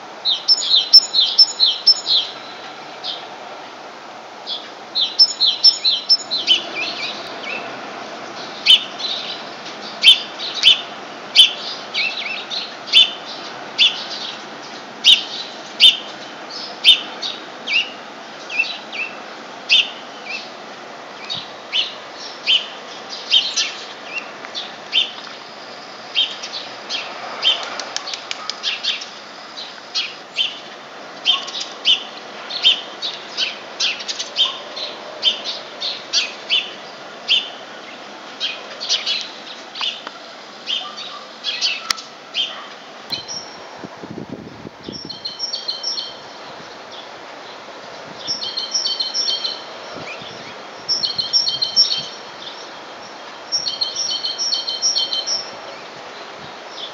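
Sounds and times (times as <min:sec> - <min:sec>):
small songbirds chirping: 0:00.2 - 0:03.3, 0:04.4 - 0:20.6, 0:21.2 - 0:43.6, 0:44.8 - 0:56.9.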